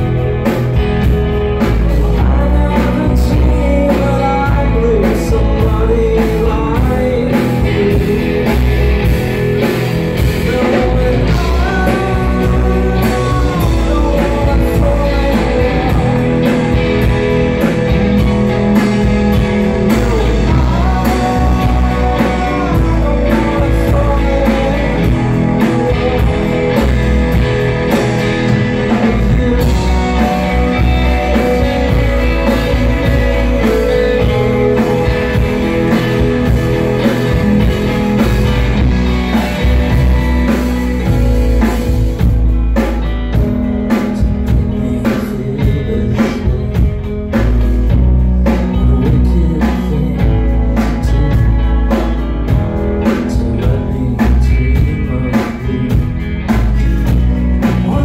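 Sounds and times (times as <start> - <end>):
electric guitar: 0.0 - 58.0
man singing: 0.0 - 58.0.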